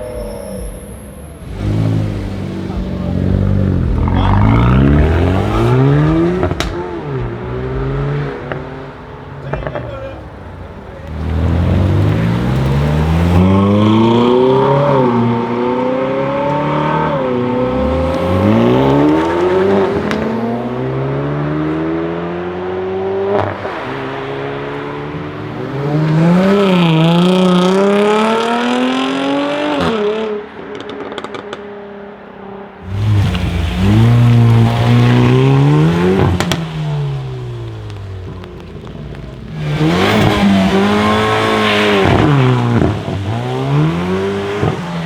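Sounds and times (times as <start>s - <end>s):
car engine accelerating hard: 0.0s - 45.0s.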